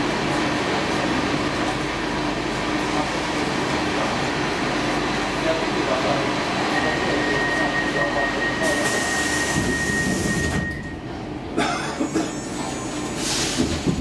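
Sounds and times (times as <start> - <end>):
train equipment hum and hiss: 0.0 - 14.0.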